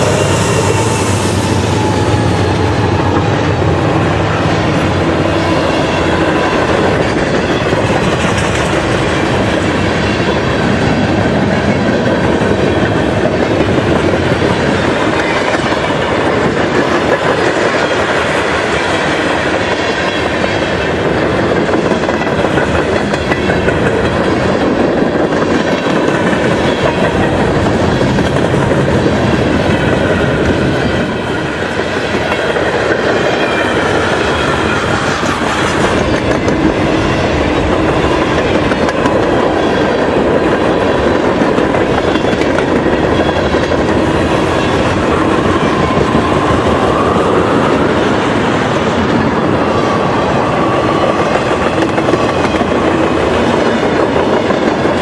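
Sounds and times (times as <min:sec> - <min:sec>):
freight train cars rolling past: 0:00.0 - 0:55.0
steel wheels on rails: 0:00.0 - 0:55.0.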